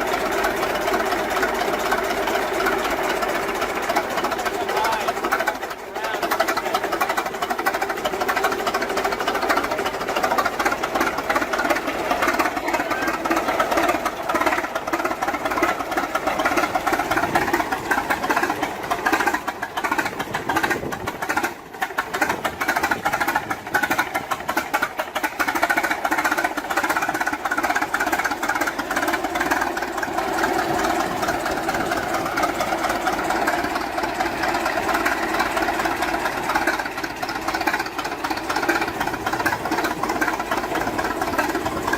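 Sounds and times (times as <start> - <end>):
machinery clattering: 0.0 - 41.9.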